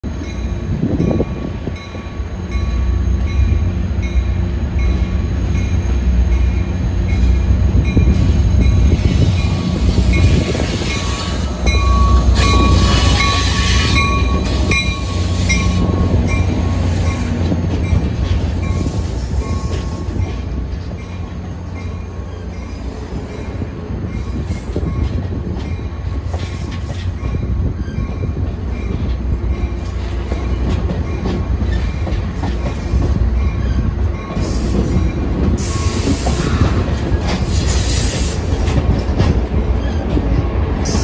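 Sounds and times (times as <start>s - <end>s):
diesel locomotives rumbling: 0.0s - 41.0s.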